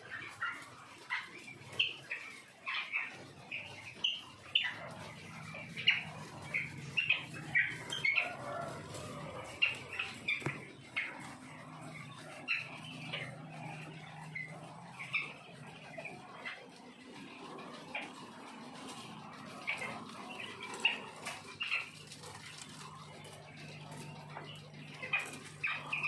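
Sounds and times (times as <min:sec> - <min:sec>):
quail chirping: 0:00.0 - 0:26.0.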